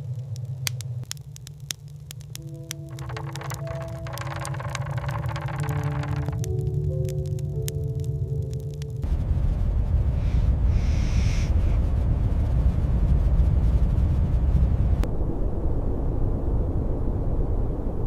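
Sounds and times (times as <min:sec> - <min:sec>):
blizzard wind roaring: 0:00.0 - 0:18.0.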